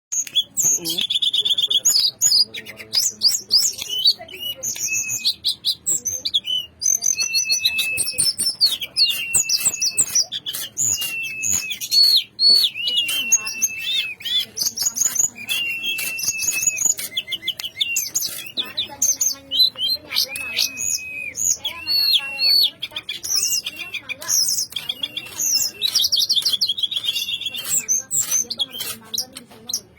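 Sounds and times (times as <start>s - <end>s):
songbird singing: 0.1s - 29.9s.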